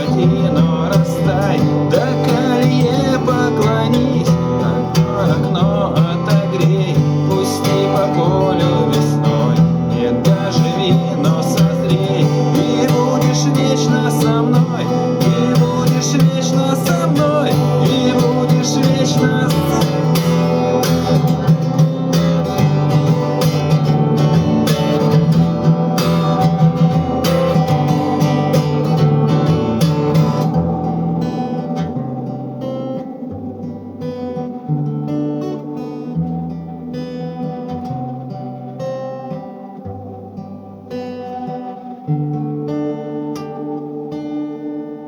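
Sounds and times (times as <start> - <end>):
wavering melody line: 0.0 - 44.3
acoustic guitar strumming: 0.0 - 45.0.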